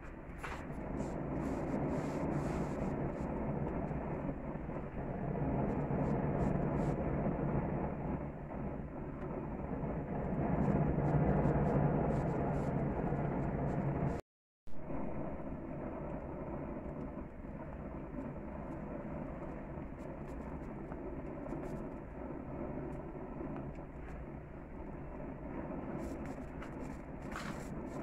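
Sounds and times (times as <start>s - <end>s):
gas burner flames rushing: 0.0s - 14.2s, 14.8s - 28.0s
faint crackles and pops: 0.0s - 28.0s.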